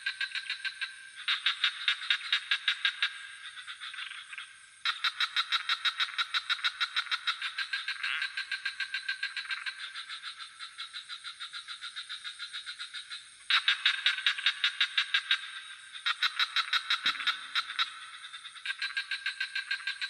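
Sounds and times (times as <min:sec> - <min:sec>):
frogs croaking: 0:00.0 - 0:20.0
high-pitched insect trill: 0:00.0 - 0:20.0.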